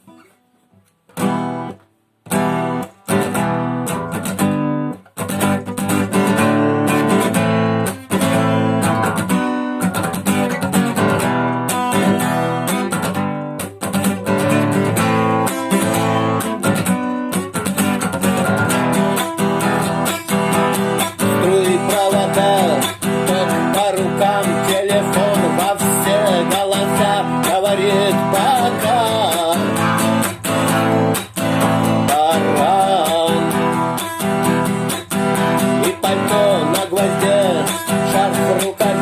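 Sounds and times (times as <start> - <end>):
strummed acoustic guitar: 0.0 - 39.0.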